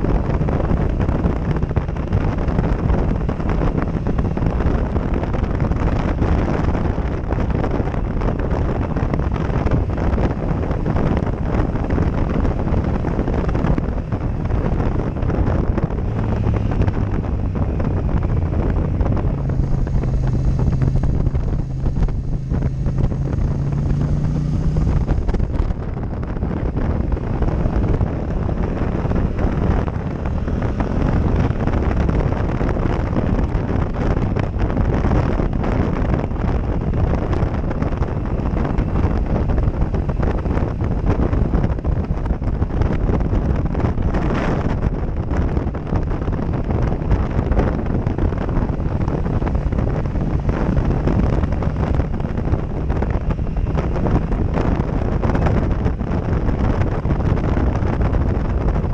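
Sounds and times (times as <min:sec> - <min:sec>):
motorcycle engine running: 0:00.0 - 0:58.9
wind buffeting microphone: 0:00.0 - 0:58.9.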